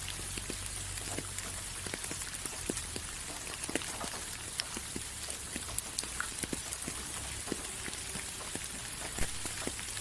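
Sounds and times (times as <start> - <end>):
drops ticking on a surface: 0.0 - 10.0
rain hissing: 0.0 - 10.0.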